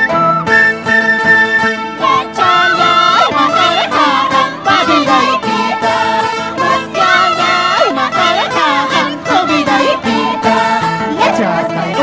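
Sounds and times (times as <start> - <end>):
plucked string instruments: 0.0 - 12.0
voices singing: 1.7 - 12.0.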